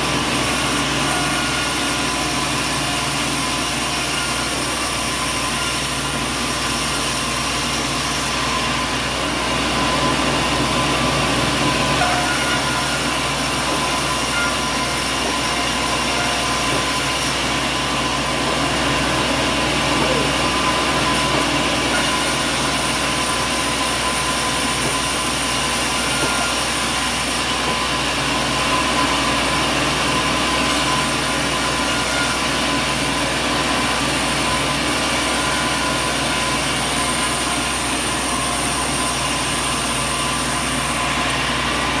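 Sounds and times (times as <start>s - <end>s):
sawmill machinery droning: 0.0s - 42.0s.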